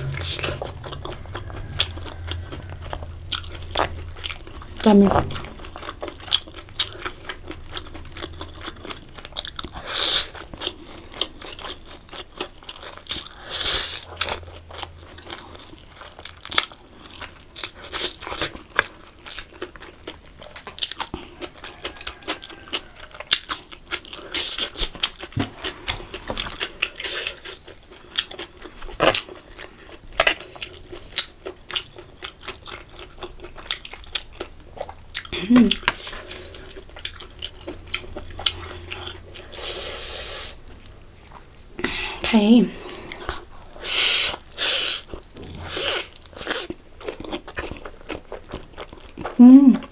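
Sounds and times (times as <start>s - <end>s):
person chewing crunchy food: 0.0s - 42.2s, 42.8s - 49.9s.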